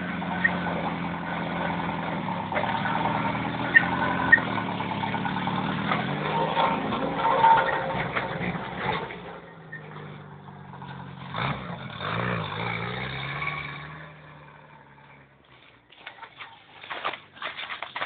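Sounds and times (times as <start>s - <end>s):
off-road vehicle engine revving: 0.0s - 15.8s.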